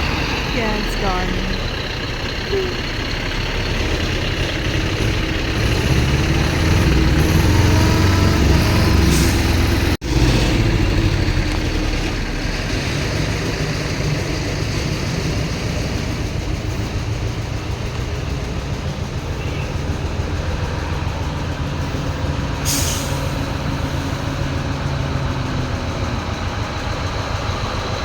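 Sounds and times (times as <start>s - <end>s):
heavy vehicle engine rumbling: 0.0s - 28.0s.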